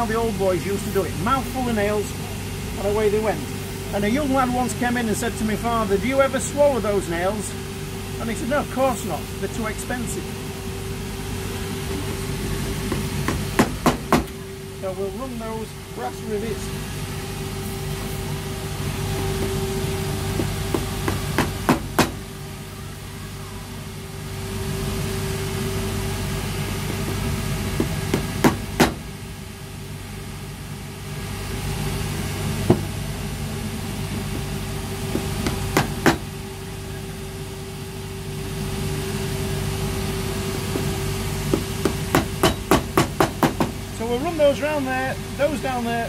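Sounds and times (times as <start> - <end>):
workshop machinery hum: 0.0 - 46.0.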